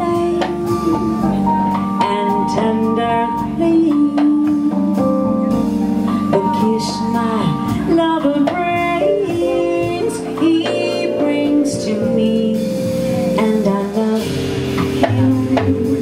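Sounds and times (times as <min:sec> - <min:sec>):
drums: 0:00.0 - 0:16.0
electric stage piano: 0:00.0 - 0:16.0
upright bass: 0:00.0 - 0:16.0.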